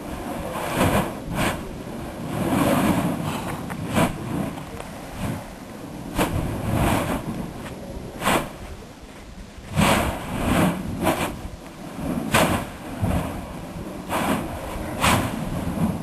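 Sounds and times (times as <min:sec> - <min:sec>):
low rumble: 0:00.0 - 0:16.0
volcano vent puffing bursts: 0:00.0 - 0:16.0.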